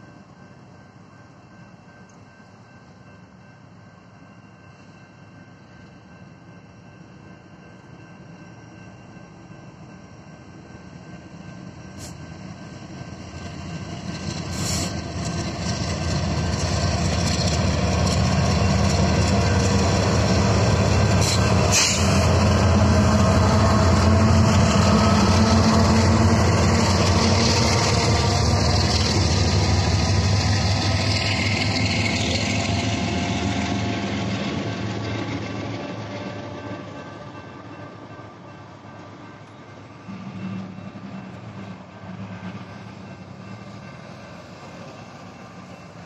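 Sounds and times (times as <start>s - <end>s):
diesel locomotives rumbling past: 0.0s - 46.0s.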